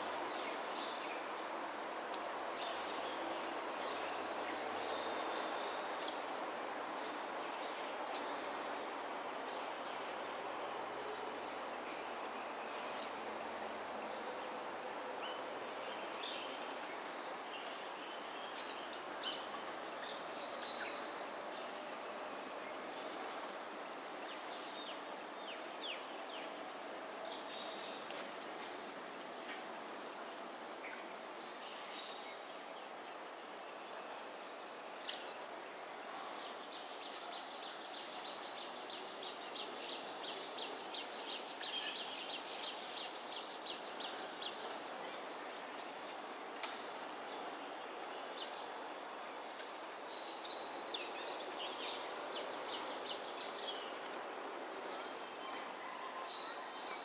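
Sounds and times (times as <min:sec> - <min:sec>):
background hum: 0:00.0 - 0:57.0
insects calling: 0:00.0 - 0:57.0.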